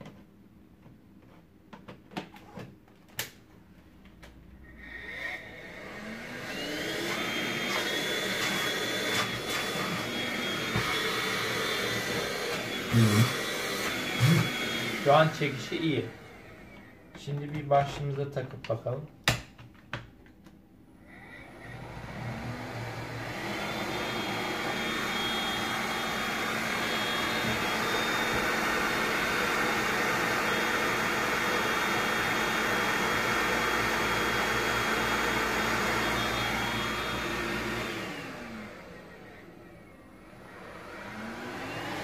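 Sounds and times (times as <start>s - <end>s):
vacuum cleaner motor whining: 4.6s - 18.3s, 20.9s - 42.0s.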